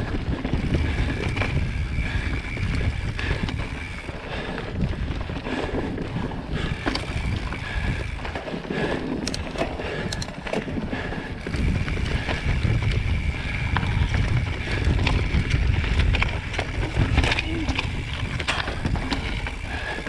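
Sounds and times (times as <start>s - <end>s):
bike rattling over roots: 0.0s - 20.0s
bike tyres rolling on dirt: 0.0s - 20.0s
wind rumbling on microphone: 0.0s - 20.0s.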